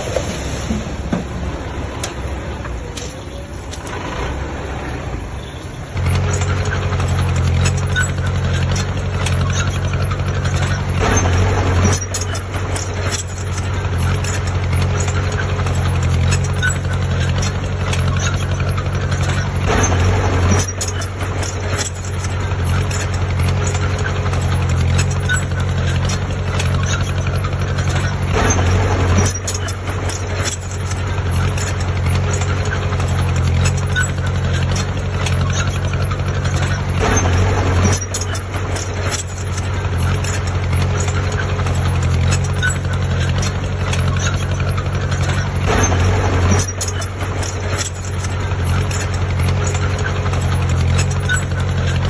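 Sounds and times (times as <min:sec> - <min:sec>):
diesel machine engine running: 0:00.0 - 0:52.0.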